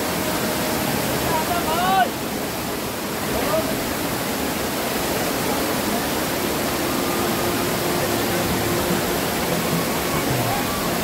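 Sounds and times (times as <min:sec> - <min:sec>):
water rushing over boulders: 0:00.0 - 0:11.0.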